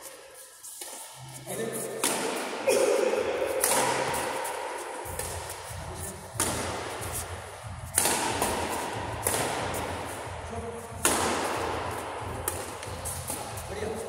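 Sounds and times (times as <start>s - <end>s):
racket hitting shuttlecock: 0.7s - 1.1s, 1.8s - 13.7s.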